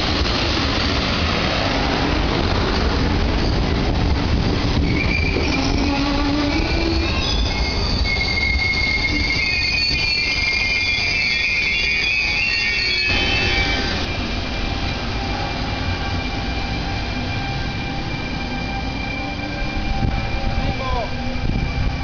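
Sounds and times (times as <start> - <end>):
electric locomotive rumble and whine: 0.0 - 22.0.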